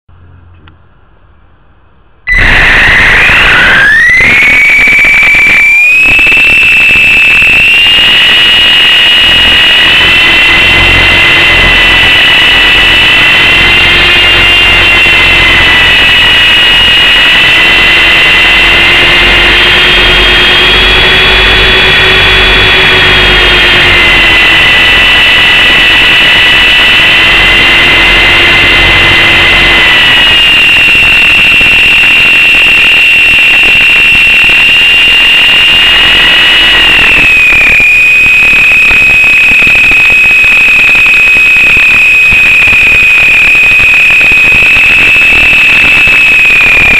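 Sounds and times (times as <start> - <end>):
rc helicopter motor whine: 2.3 - 46.9.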